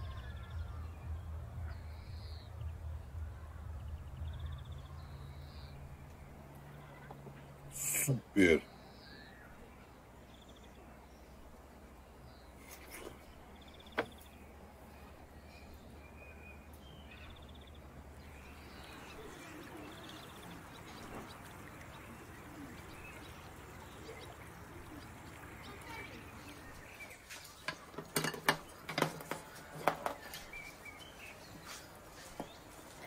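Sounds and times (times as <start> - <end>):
faint bird chirps: 0.0 - 11.4, 12.3 - 27.7.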